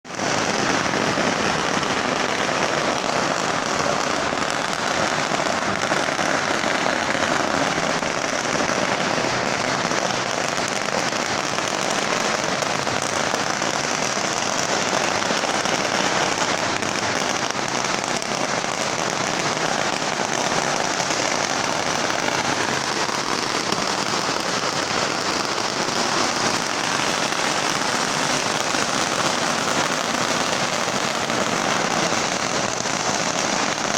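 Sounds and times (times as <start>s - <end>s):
firecrackers crackling: 0.0s - 33.9s.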